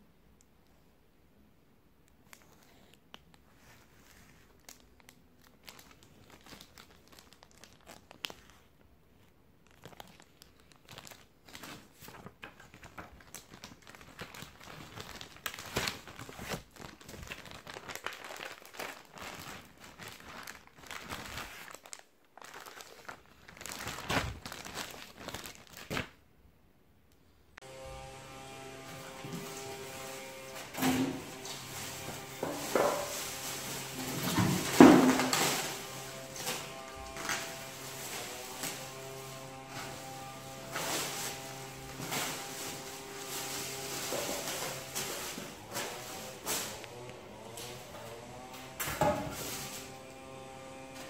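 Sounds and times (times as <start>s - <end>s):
paper rustling: 3.4s - 8.7s, 9.7s - 26.1s, 28.8s - 50.1s
plastic packaging crinkling and tearing: 3.5s - 26.2s, 28.8s - 51.0s.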